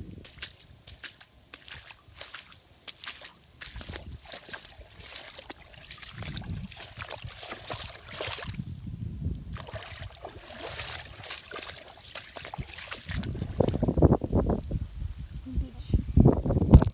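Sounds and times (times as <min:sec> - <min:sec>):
water splashing in flooded grass: 0:00.0 - 0:08.8, 0:09.4 - 0:14.5.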